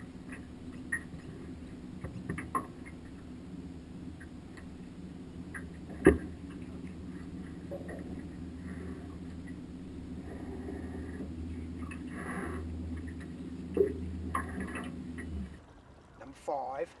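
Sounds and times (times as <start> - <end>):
boat motor humming: 0.0 - 15.8.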